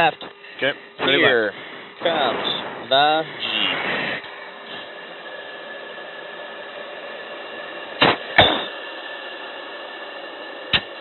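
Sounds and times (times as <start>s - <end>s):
steady cockpit hiss: 0.0s - 11.0s.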